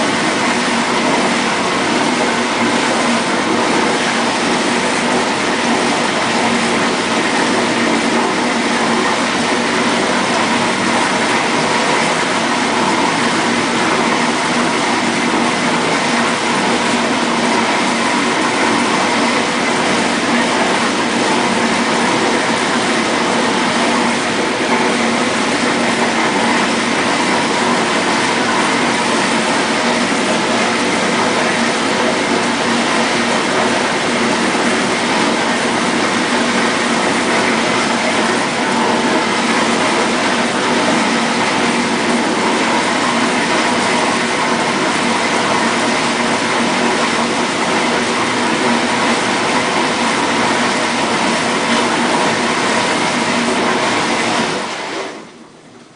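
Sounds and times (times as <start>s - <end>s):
water spraying in dishwasher: 0.0s - 55.3s.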